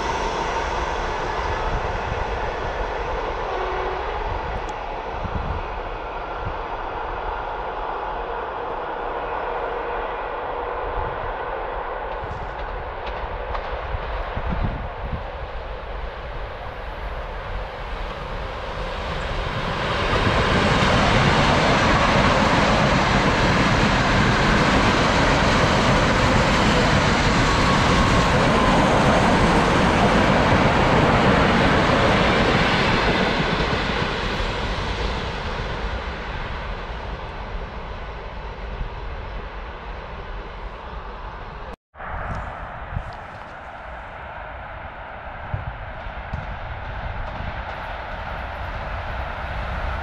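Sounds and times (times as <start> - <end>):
train passing by: 0.0 - 50.0.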